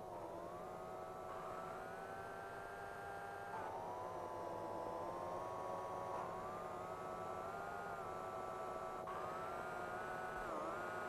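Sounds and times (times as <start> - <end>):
siren-like whine: 0.0 - 11.0.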